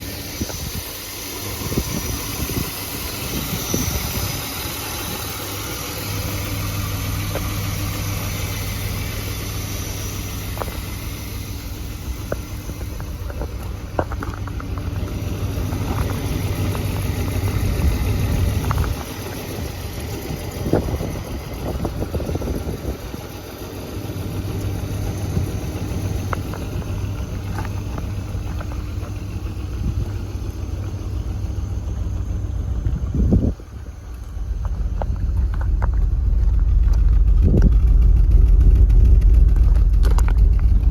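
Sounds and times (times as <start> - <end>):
car engine idling: 0.0 - 40.9
faint engine ticks: 0.0 - 40.9.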